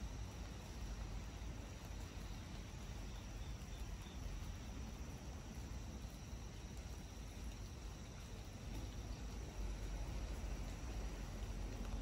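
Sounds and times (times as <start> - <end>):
rain falling through foliage: 0.0 - 12.0.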